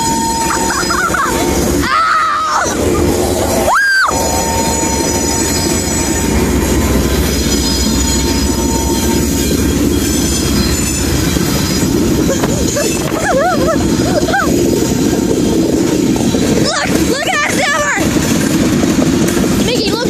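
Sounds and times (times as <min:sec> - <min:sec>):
wheels squealing against rail: 0:00.0 - 0:18.0
train wheels clattering on rails: 0:00.0 - 0:20.0.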